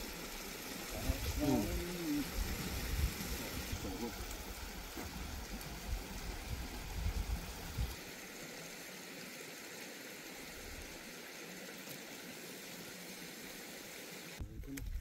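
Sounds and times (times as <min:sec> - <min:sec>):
mountain stream rushing: 0:00.0 - 0:14.4.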